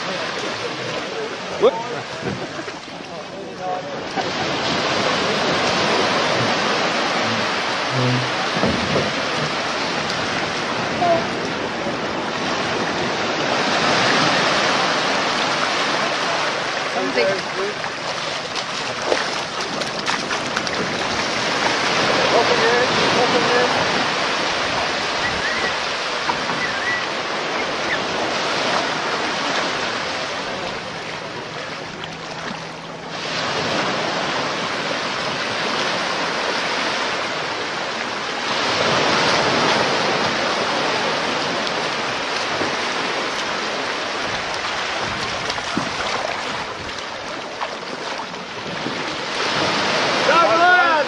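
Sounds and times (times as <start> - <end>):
surf breaking on beach: 0.0 - 51.0.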